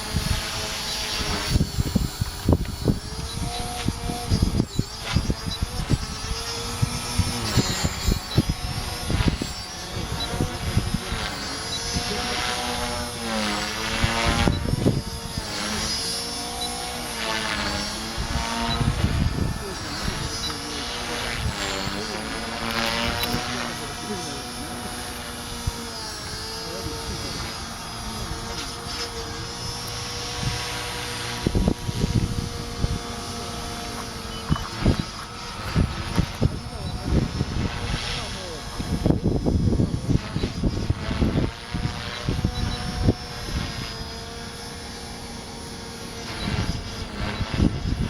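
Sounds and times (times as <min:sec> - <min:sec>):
rc helicopter motor whining: 0:00.0 - 0:48.0.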